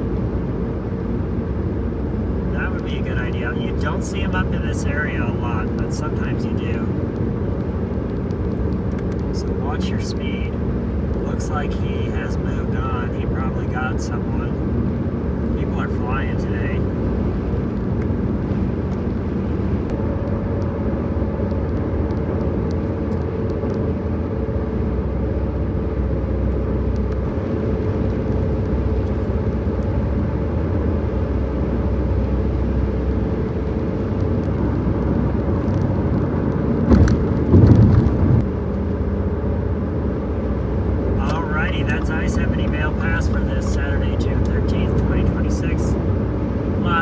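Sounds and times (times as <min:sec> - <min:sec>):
car road and engine noise: 0:00.0 - 0:47.0
low rumble with crackling: 0:00.0 - 0:47.0.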